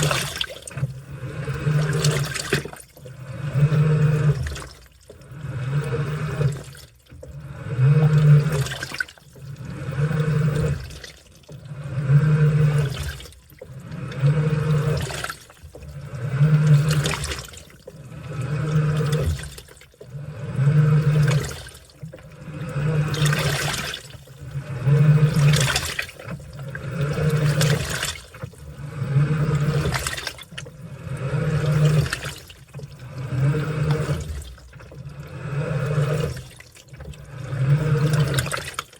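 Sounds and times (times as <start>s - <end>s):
washing machine motor humming: 0.0s - 38.9s
water and laundry sloshing: 0.0s - 38.9s.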